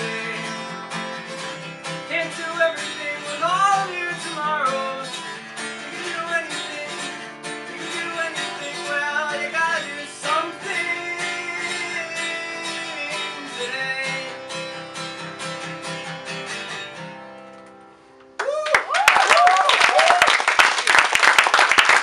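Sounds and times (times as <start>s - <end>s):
acoustic guitar strumming: 0.0s - 18.4s.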